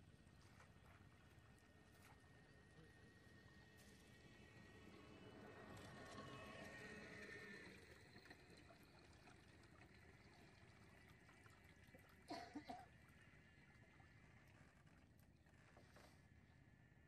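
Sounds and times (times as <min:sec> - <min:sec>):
faint trickling water: 0:00.0 - 0:16.9.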